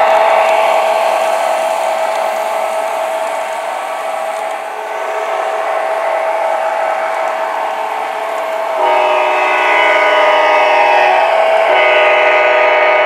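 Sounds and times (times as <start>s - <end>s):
model train motors whirring: 0.0s - 13.0s.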